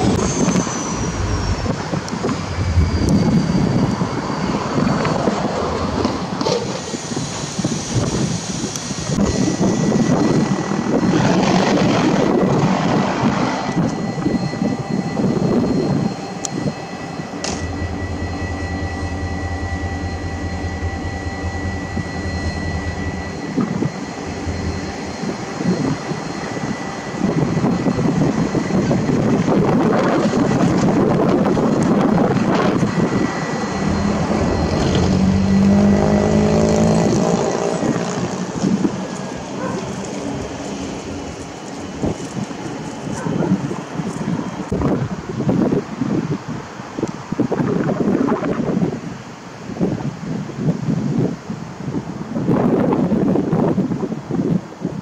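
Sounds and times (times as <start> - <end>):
diesel locomotive engine droning: 0.0 - 55.0
wind gusting on microphone: 0.0 - 55.0.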